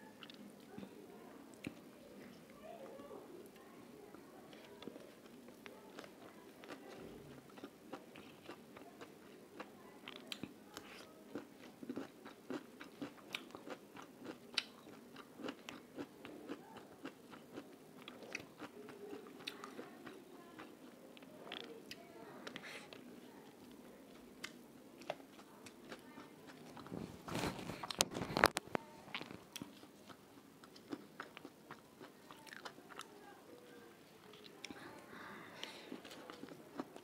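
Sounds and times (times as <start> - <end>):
person chewing food: 4.6 - 33.1, 35.6 - 37.0.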